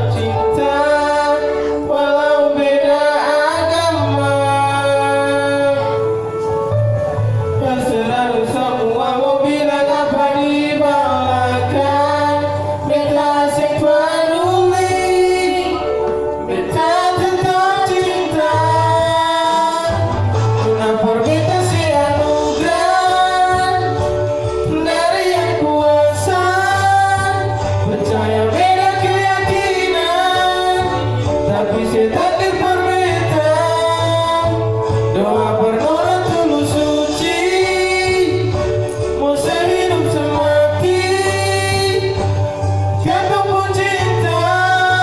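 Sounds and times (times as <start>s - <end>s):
sung love song over bass: 0.0s - 45.0s.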